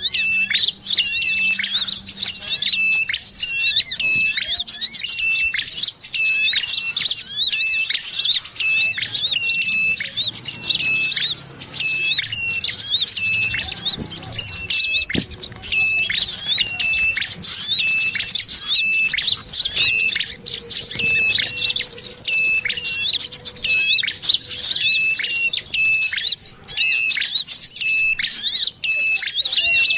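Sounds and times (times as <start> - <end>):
songbirds chattering and chirping: 0.0 - 29.9.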